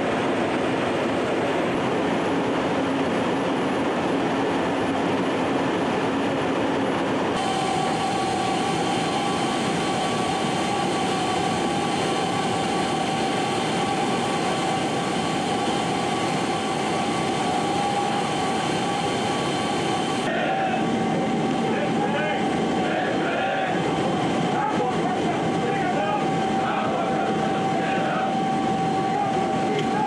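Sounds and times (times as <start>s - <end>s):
engine and air noise inside aircraft: 0.0s - 30.0s
high whine: 0.0s - 30.0s
jet engine noise: 0.0s - 30.0s.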